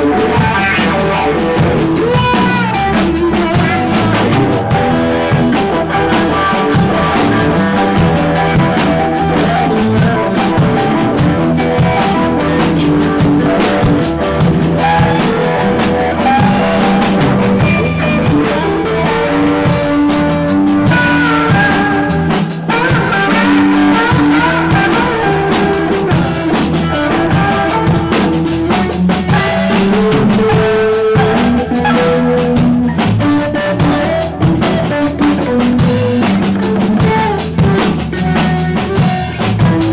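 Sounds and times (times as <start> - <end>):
drum kit beat: 0.0 - 39.9
electric guitar lead lines: 0.0 - 39.9.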